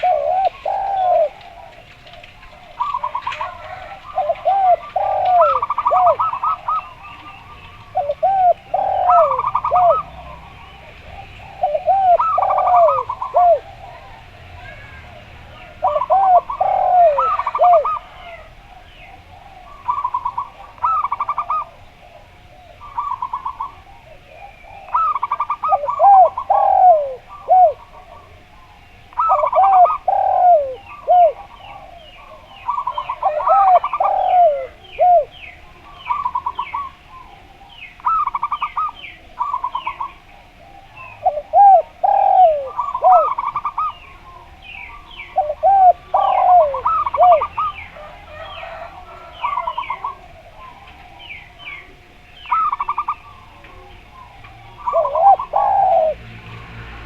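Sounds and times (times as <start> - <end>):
dove low arched cooing: 0.0 - 57.0
dove staccato cooing: 0.0 - 57.0.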